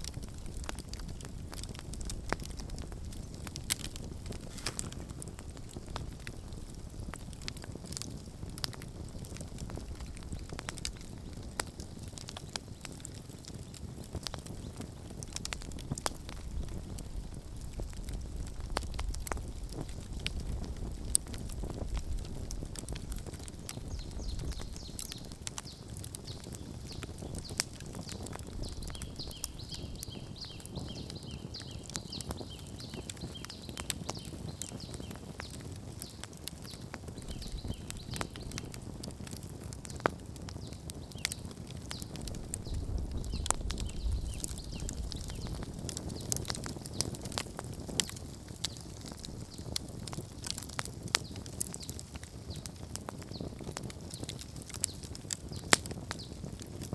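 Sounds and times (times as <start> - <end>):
campfire crackling and popping: 0.0 - 56.9
low rumble of flame: 0.0 - 56.9.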